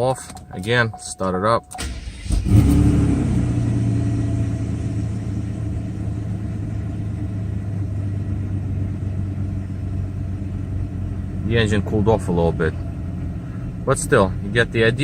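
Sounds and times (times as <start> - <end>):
car engine starting and idling: 0.0 - 15.0.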